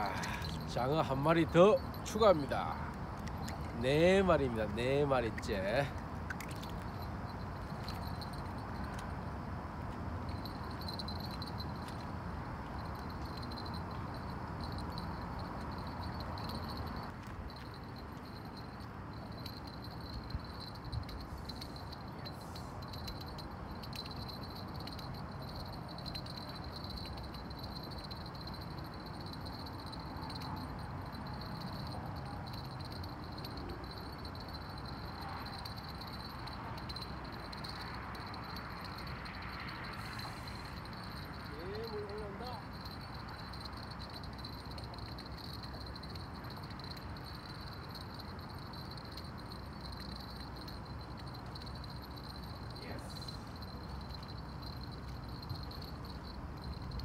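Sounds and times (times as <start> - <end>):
high-pitched insect trill: 0.0 - 57.0
low city rumble: 0.0 - 57.0.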